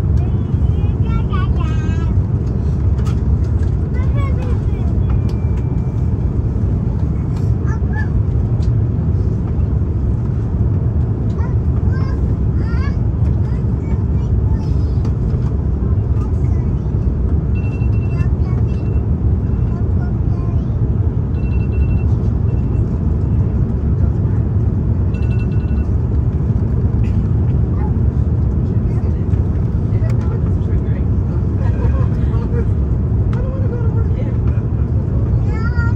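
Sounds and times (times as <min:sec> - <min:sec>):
airplane cabin roar: 0:00.0 - 0:35.9.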